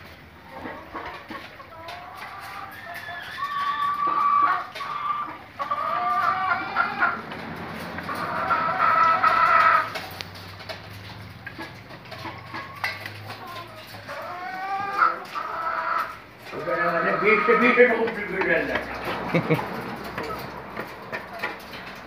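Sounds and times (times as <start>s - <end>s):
hens calling: 0.0s - 22.0s
hens clucking: 0.0s - 22.0s.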